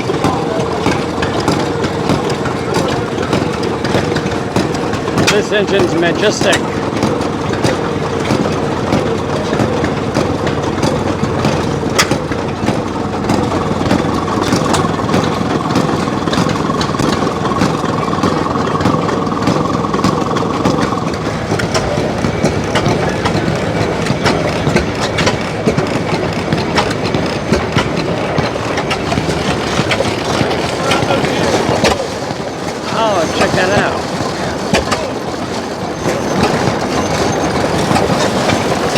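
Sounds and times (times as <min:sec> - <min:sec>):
large engine running with knocks: 0:00.0 - 0:38.9.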